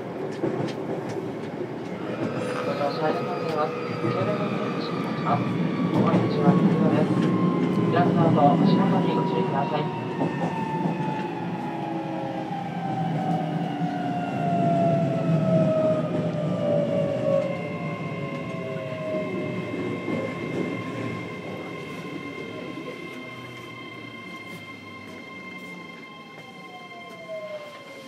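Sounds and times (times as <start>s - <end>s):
train wheels rumbling: 0.0s - 28.0s
electric train inverter whining: 1.8s - 28.0s.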